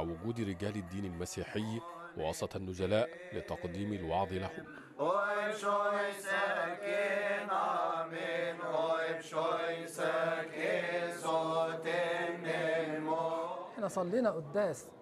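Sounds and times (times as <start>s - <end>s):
man singing melismatic chant: 0.0s - 13.4s.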